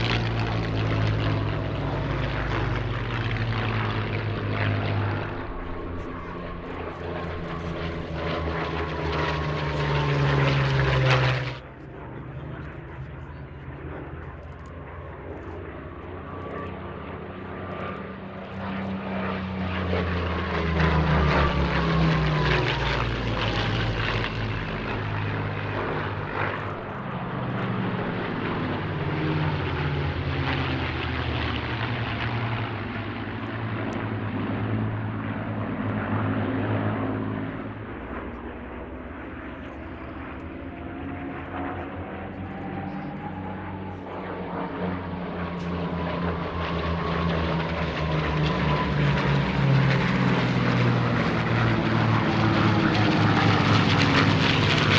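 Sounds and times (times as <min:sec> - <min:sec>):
aircraft approaching: 0:00.0 - 0:54.9
propeller aircraft flying past: 0:00.0 - 0:54.9.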